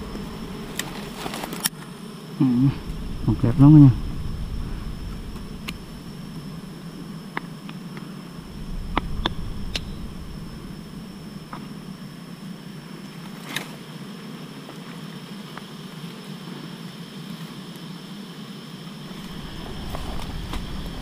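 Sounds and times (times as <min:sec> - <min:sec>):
bees buzzing: 0:00.0 - 0:17.2, 0:18.9 - 0:21.0.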